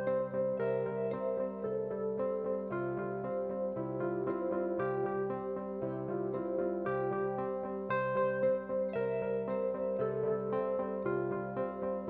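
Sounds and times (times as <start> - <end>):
soft instrumental melody: 0.0 - 12.0.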